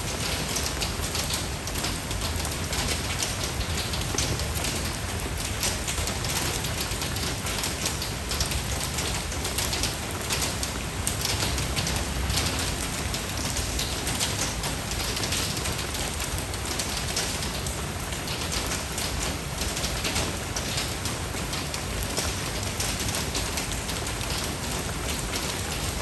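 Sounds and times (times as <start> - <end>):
raindrops ticking: 0.0 - 26.0
steady rain: 0.0 - 26.0.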